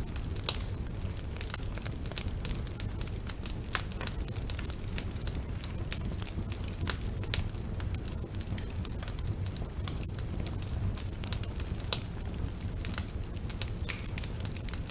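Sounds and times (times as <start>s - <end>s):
low rumble of flames: 0.0s - 14.9s
wood fire crackling and popping: 0.0s - 14.9s.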